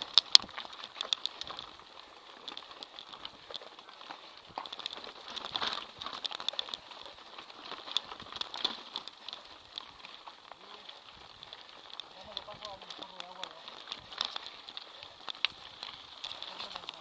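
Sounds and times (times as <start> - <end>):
mountain bike rattling over rocks: 0.0 - 17.0.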